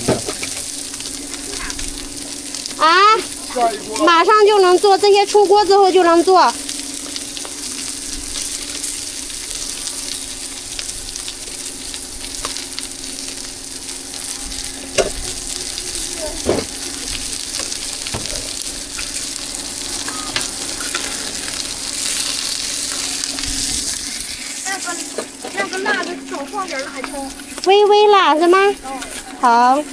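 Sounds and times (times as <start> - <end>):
food sizzling in hot oil: 0.0 - 29.9.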